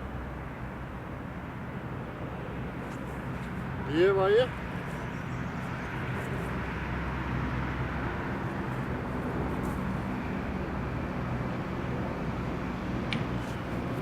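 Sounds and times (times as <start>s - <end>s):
motor traffic rumble: 0.0s - 14.0s.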